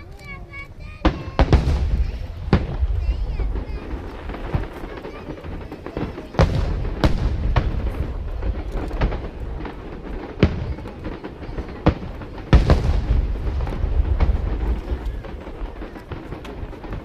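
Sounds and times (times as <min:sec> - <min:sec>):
firework shells booming: 0:01.0 - 0:17.0.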